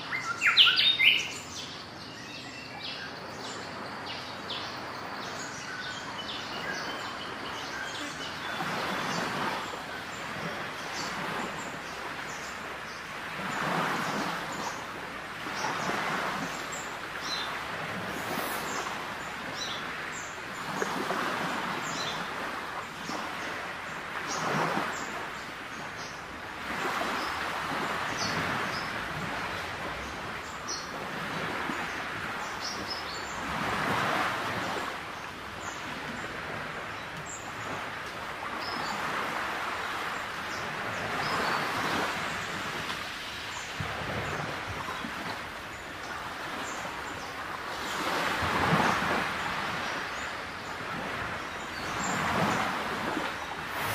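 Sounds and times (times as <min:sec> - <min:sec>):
outdoor noise: 0:00.0 - 0:53.9.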